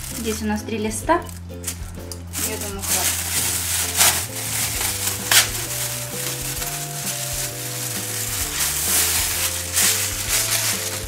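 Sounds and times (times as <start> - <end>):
background music: 0.0 - 11.0
plastic packaging crinkling: 1.2 - 11.0.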